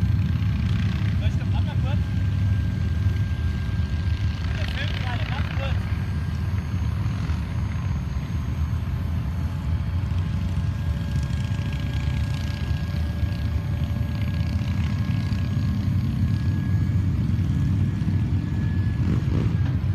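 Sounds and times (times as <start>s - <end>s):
motor running with high whine: 0.0s - 19.9s.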